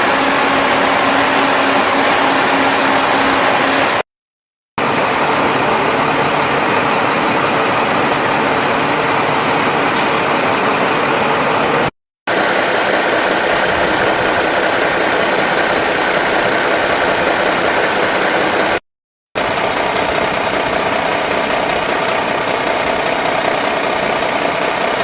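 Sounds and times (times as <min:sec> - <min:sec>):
heavy diesel engine rumbling: 0:00.0 - 0:04.1, 0:04.8 - 0:18.8, 0:19.4 - 0:25.0.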